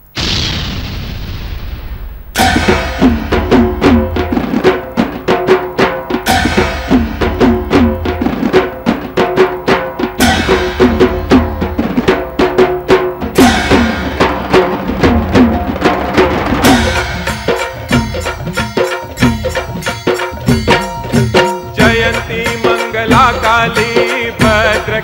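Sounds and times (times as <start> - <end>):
bright cymbal crash: 0.2 - 21.8
fast drum rhythm: 2.4 - 25.0.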